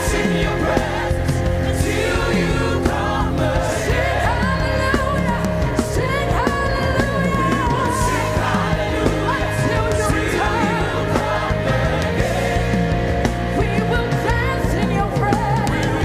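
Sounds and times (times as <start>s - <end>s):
band playing held chords: 0.0s - 16.0s.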